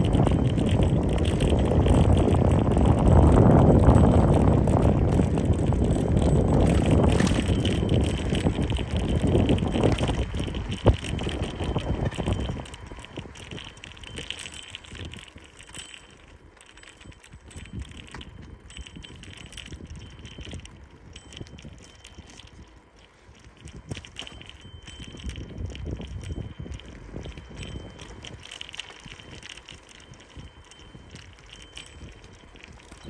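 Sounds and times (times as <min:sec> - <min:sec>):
bicycle rolling over asphalt: 0:00.0 - 0:33.0
light rattles and ticks: 0:00.0 - 0:33.0
wind rumbling on microphone: 0:00.0 - 0:33.0.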